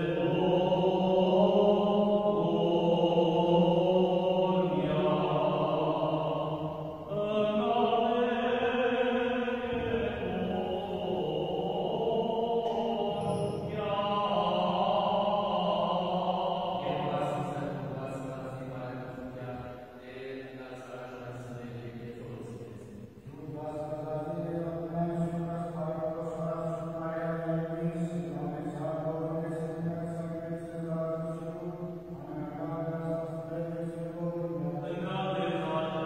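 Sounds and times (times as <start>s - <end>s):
man chanting a hymn: 0.0s - 36.0s.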